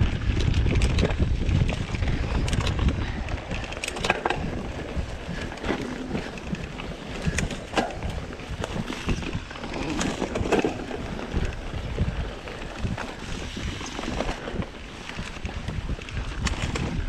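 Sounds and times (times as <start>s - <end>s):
bike knocks and rattles: 0.0s - 17.0s
tyres rumbling on dirt: 0.0s - 17.0s
wind buffeting microphone: 0.0s - 17.0s.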